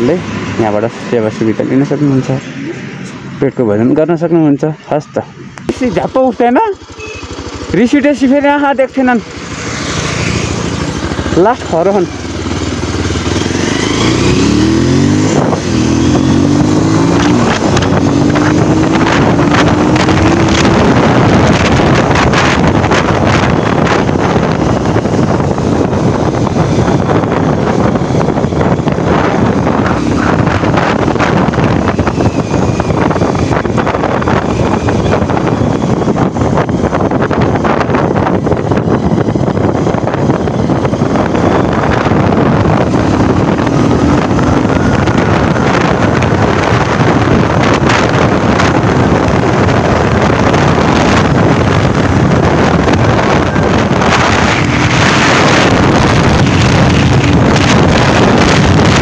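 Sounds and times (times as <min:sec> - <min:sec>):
wind buffeting microphone: 0:00.0 - 0:59.0
motorcycle engine running: 0:05.5 - 0:59.0.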